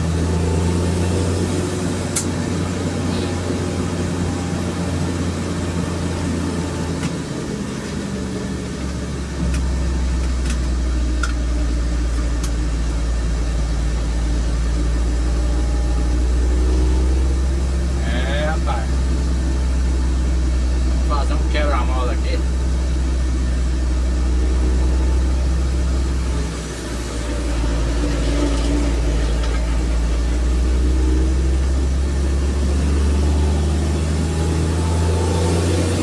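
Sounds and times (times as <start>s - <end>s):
vehicle cabin drone: 0.0s - 36.0s.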